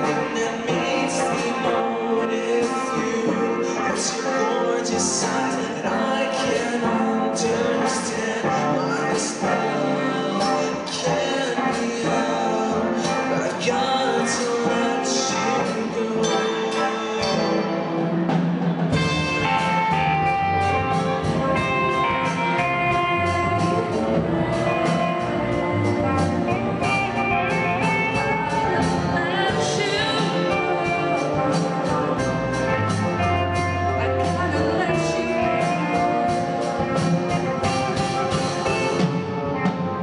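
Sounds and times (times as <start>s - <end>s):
person singing: 0.0s - 18.1s, 18.9s - 40.0s
bass guitar: 0.0s - 40.0s
drum kit: 0.0s - 40.0s
electric guitars: 0.0s - 40.0s.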